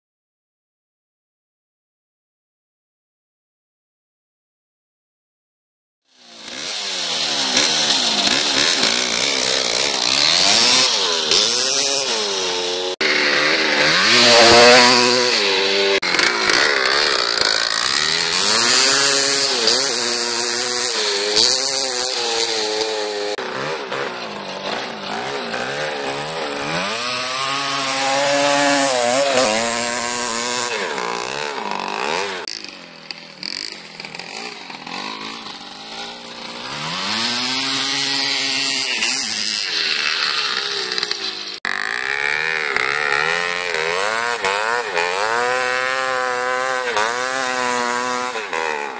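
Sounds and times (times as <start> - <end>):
motorcycle engine revving: 6.1 - 48.9.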